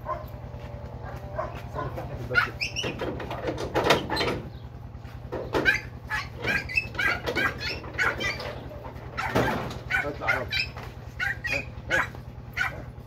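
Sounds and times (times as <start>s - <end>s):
dogs whining and yelping: 0.0s - 3.2s, 5.4s - 13.0s.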